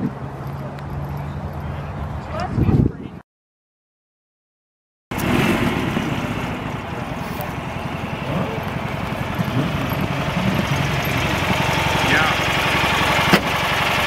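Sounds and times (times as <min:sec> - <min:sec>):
vehicle engine rumbling: 0:00.0 - 0:03.2, 0:05.1 - 0:14.0.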